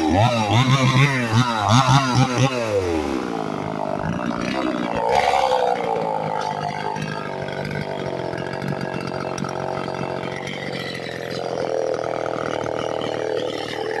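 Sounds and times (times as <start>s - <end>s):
small chainsaw running: 0.0s - 14.0s.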